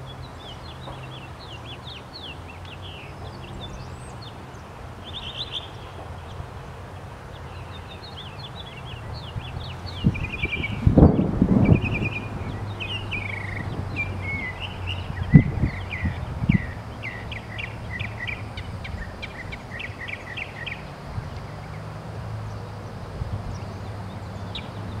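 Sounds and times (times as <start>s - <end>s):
low outdoor hum: 0.0s - 25.0s
songbird singing: 0.0s - 25.0s.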